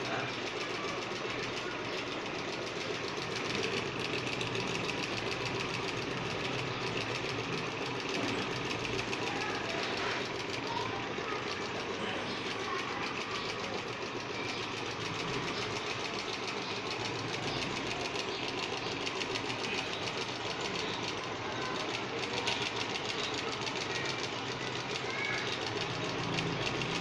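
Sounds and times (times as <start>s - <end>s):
sewing machine clatter: 0.0s - 27.0s.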